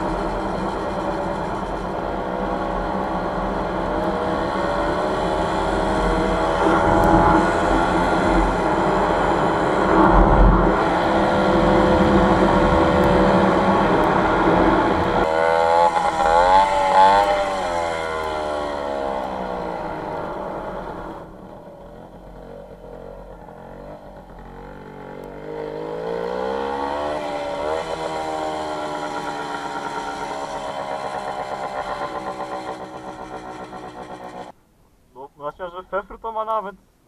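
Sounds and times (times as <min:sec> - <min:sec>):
motorcycle two-stroke engine revving: 0:00.0 - 0:34.5.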